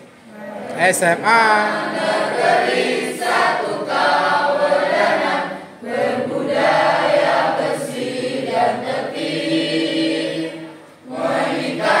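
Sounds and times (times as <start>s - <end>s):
students singing in unison: 1.5s - 12.0s.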